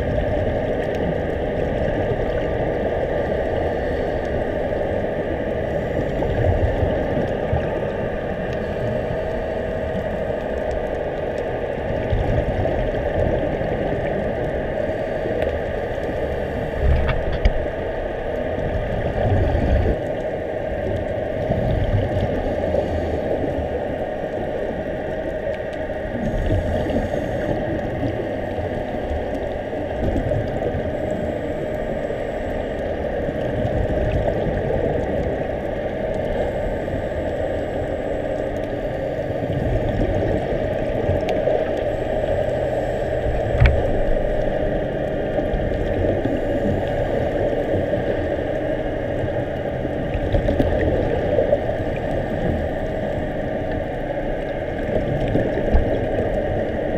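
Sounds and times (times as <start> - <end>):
low bubbly rumbles: 0.0 - 56.9
underwater hum and hiss: 0.0 - 56.9.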